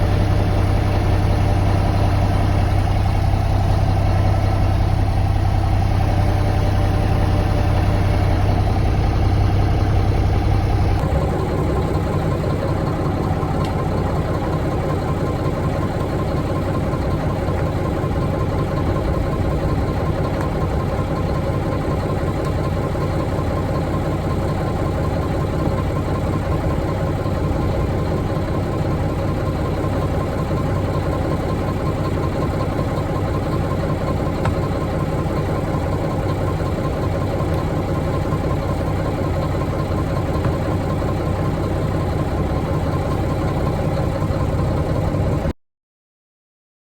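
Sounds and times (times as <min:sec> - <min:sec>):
diesel truck engine idling: 0:00.0 - 0:45.5.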